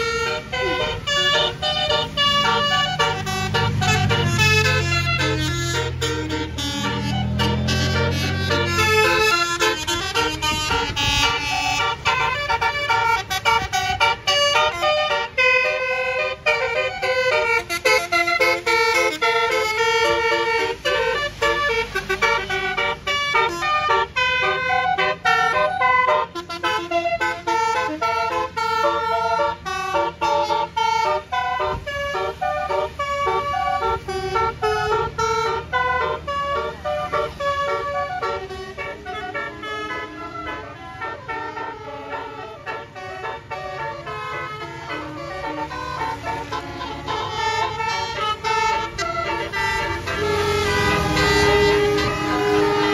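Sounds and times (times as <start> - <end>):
bus air horns playing melody: 0.0 - 52.9
low engine rumble: 0.0 - 52.9.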